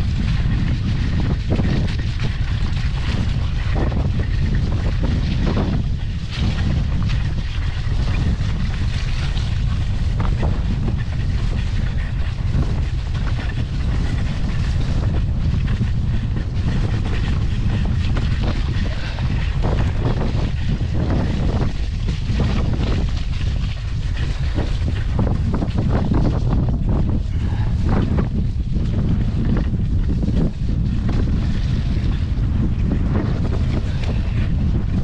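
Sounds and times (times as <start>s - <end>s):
bike knocks and rattles: 0.0s - 35.0s
wind buffeting microphone: 0.0s - 35.0s.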